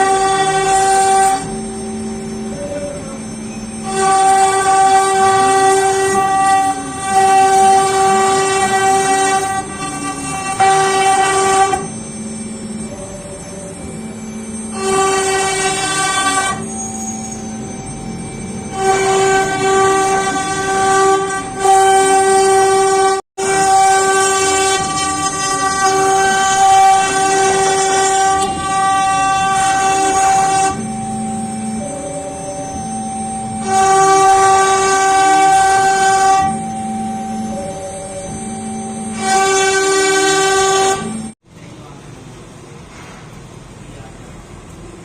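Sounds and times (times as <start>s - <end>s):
machine axis motors: 0.0s - 41.4s
router spindle whining: 0.0s - 41.4s.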